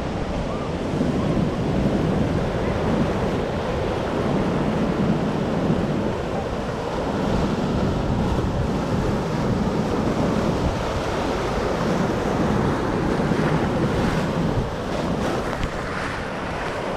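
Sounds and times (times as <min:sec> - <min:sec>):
storm surf breaking: 0:00.0 - 0:16.9
wind buffeting microphone: 0:00.0 - 0:16.9.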